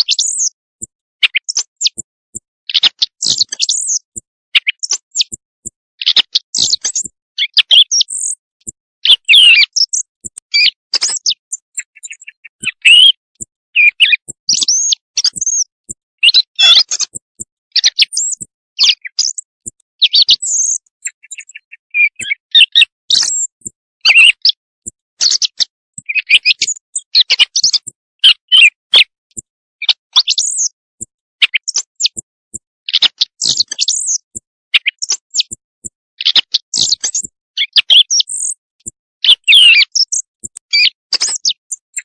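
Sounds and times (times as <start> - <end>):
recorded bird chirps and whistles: 0.0 - 42.0.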